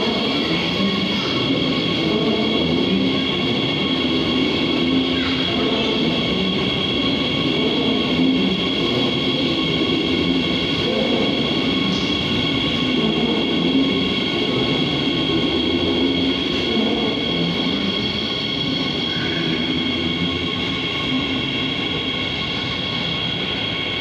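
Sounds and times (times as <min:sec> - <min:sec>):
high-pitched train whine: 0:00.0 - 0:24.0
train wheels rumbling: 0:00.0 - 0:24.0.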